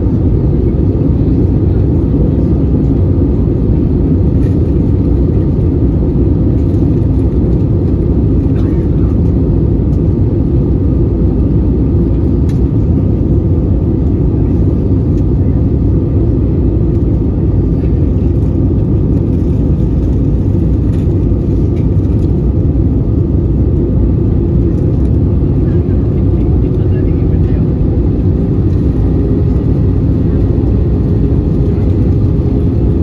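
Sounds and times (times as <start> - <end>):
airplane cabin noise: 0.0 - 33.0.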